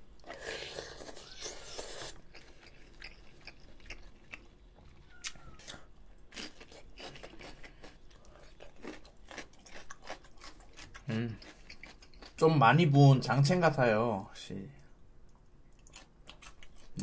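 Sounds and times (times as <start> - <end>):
person chewing and crunching food: 0.1 - 12.4, 15.2 - 17.0.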